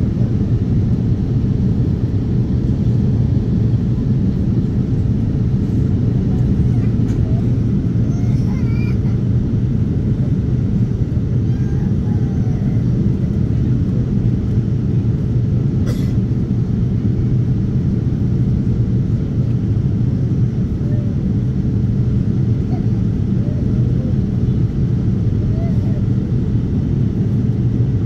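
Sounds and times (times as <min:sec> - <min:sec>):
airliner cabin jet engine noise: 0:00.0 - 0:28.0.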